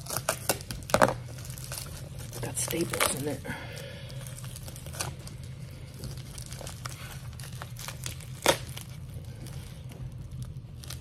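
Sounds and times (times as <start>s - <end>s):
paper packaging crinkling and tearing: 0.0s - 11.0s.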